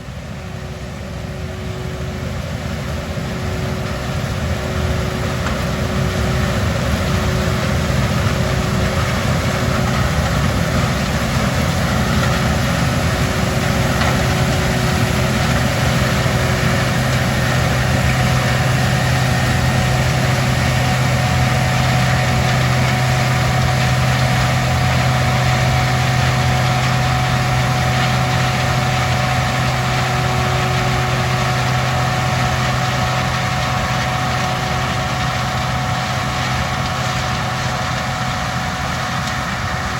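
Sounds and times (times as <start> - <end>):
combine harvester engine drone: 0.0 - 39.9
whining machinery tones: 0.0 - 39.9.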